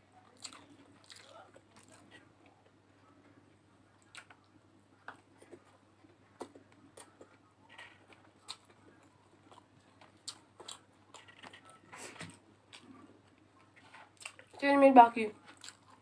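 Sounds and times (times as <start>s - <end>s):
faint chewing: 0.0s - 14.7s, 15.3s - 16.0s.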